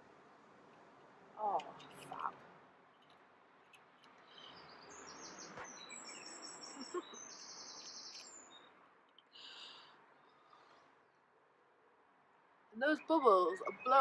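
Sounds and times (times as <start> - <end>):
songbirds chirping: 0.6 - 14.0.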